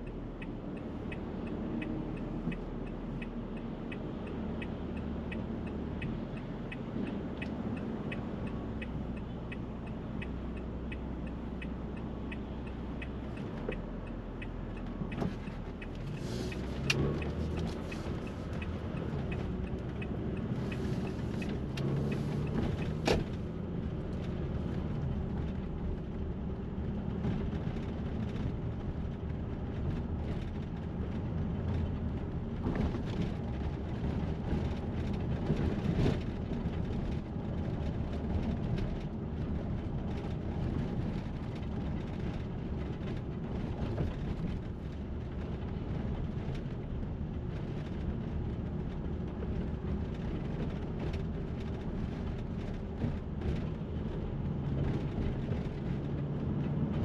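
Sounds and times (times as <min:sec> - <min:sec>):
passing vehicles rumbling: 0:00.0 - 0:57.0.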